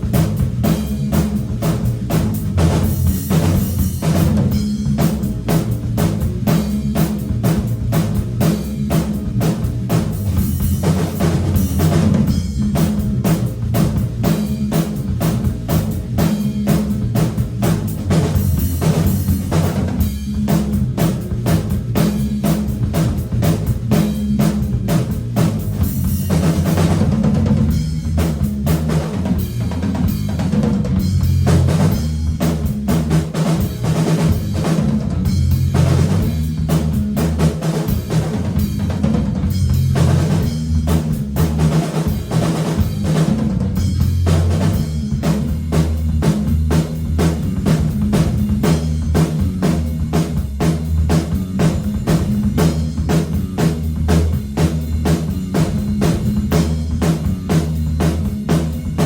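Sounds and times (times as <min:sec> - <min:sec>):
bass guitar: 0:00.0 - 0:59.0
rock drum kit: 0:00.0 - 0:59.0.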